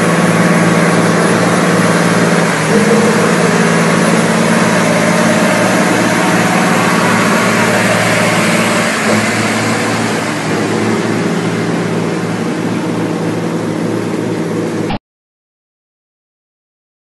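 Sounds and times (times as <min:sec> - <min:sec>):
truck diesel engine running: 0:00.0 - 0:14.9
loud rushing noise: 0:00.0 - 0:15.0.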